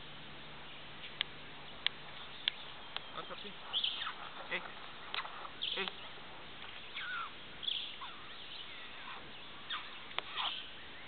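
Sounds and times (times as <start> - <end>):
steady outdoor hiss: 0.0 - 11.0
bird chirps and falling calls: 1.0 - 11.0.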